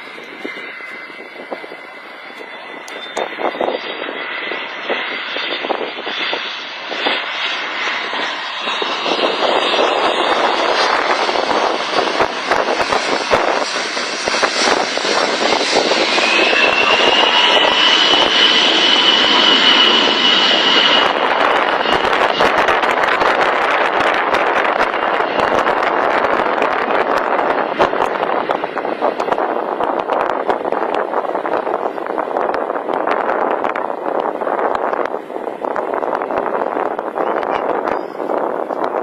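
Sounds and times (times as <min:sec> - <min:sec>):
aircraft engines: 0:00.0 - 0:39.0
high whine: 0:00.0 - 0:39.0.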